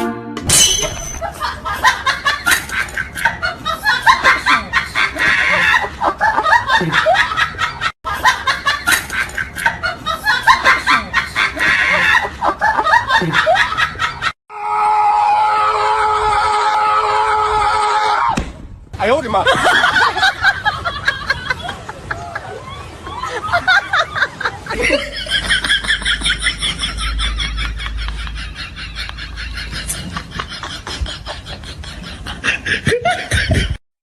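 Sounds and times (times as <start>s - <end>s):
cackling laughter: 1.2s - 14.4s, 19.4s - 33.8s.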